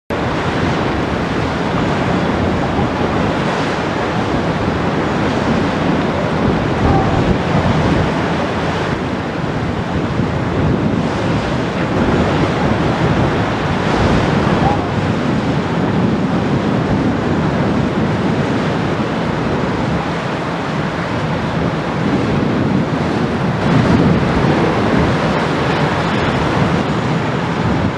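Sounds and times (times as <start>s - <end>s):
ship bow wave water: 0.1s - 27.9s
ship diesel engine running: 0.1s - 27.9s
wind on microphone: 0.1s - 27.9s.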